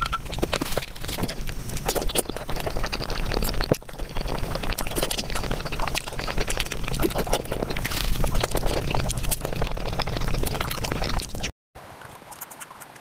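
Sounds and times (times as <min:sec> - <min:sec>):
sped-up wet chewing sounds: 0:00.0 - 0:11.5.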